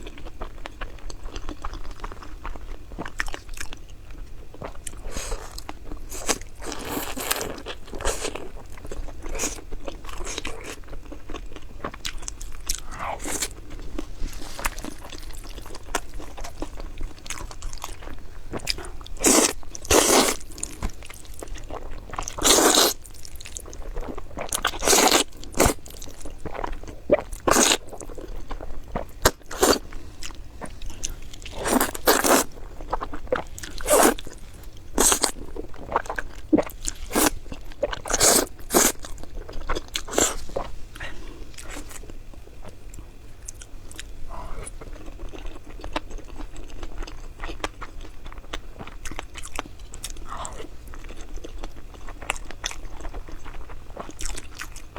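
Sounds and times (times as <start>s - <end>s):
crunching and chewing food: 0.0s - 54.9s.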